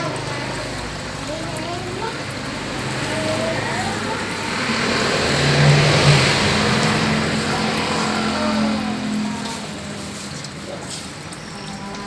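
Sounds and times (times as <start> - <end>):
vehicle engine passing: 0.0 - 12.0.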